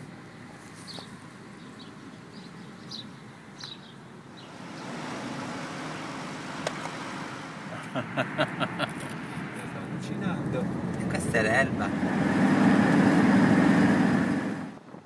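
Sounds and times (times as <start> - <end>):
low outdoor hum: 0.0 - 15.0
motorway traffic noise: 0.0 - 15.0.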